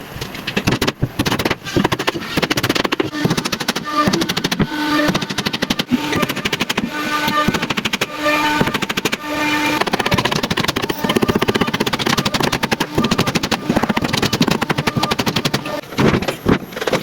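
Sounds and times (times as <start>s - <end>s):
small engine chugging: 0.7s - 17.0s
short steady tones: 1.0s - 15.9s.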